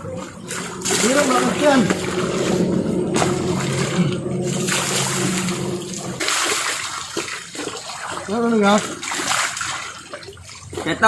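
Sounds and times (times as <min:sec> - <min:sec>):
steady low hum: 0:00.0 - 0:11.0
water splashing in a stream: 0:00.0 - 0:11.0.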